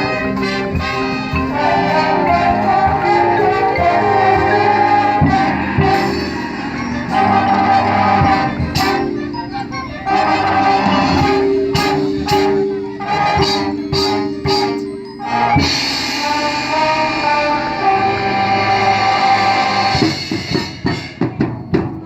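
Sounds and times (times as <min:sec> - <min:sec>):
brass chords: 0:00.0 - 0:21.6
percussion accents: 0:00.0 - 0:22.0.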